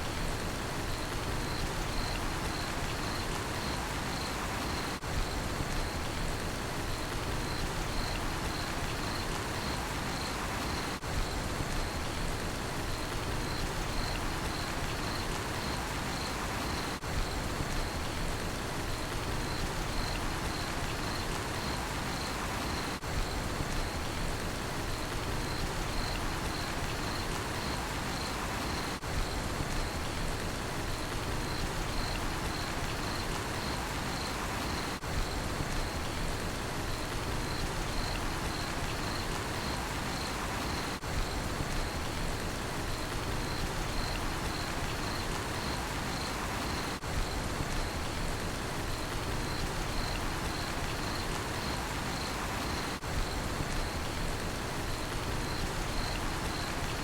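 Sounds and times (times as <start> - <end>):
steady rain: 0.0 - 57.0
cricket chirping: 0.8 - 6.2, 6.9 - 12.2, 12.8 - 18.2, 18.9 - 24.2, 24.9 - 30.2, 31.0 - 36.2, 36.8 - 57.0.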